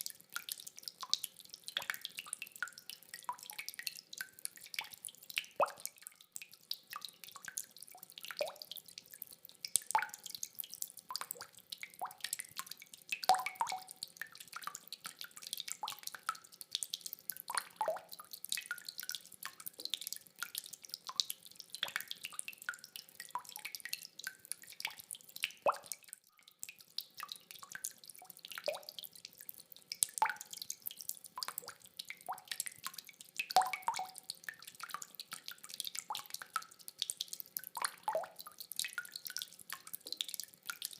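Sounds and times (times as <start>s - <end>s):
faint rain patter: 0.0s - 40.9s.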